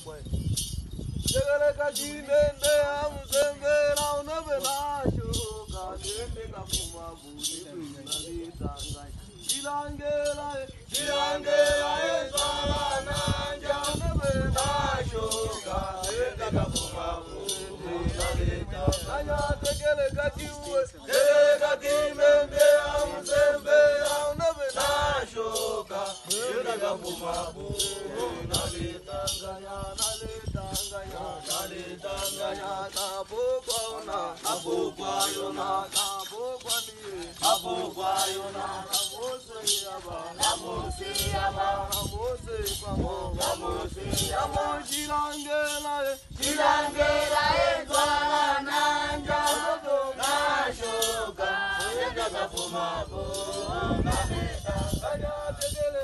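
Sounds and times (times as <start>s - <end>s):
sharp rattling beat: 0.0s - 56.0s
group of people singing: 1.4s - 7.0s, 9.5s - 56.0s.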